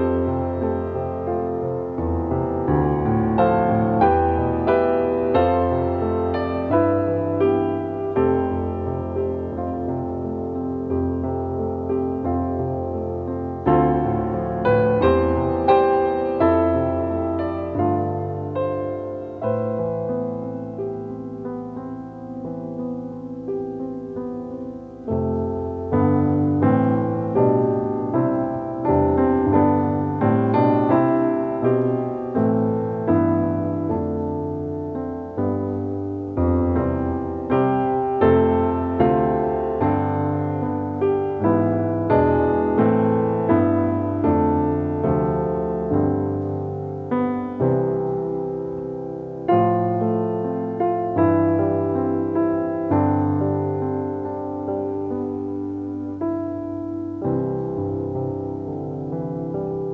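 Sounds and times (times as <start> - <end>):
slow solo piano: 0.0 - 59.9.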